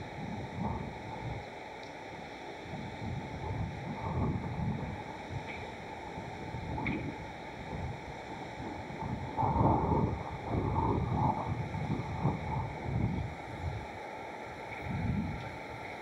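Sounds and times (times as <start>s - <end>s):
wind buffeting microphone: 0.0s - 1.5s, 2.7s - 16.0s.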